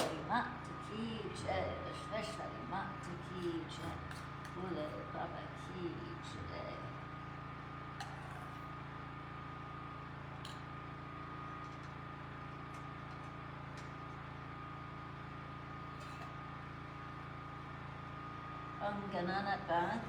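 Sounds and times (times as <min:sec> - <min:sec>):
generator humming with high whine: 0:00.0 - 0:20.0.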